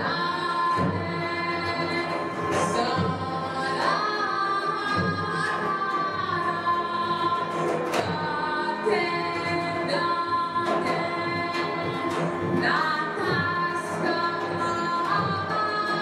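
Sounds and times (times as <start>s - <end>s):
woman singing into a microphone: 0.0s - 16.0s.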